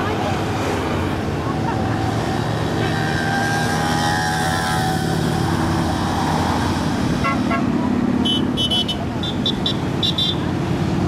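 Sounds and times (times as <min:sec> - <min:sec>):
motorcycles passing: 0:00.0 - 0:11.0.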